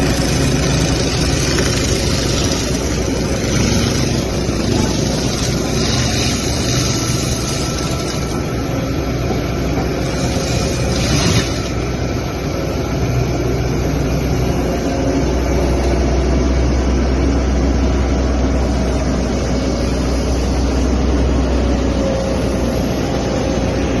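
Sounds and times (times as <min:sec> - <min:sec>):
excavator engine hum: 0:00.0 - 0:24.0
excavator mulcher grinding: 0:00.0 - 0:24.0.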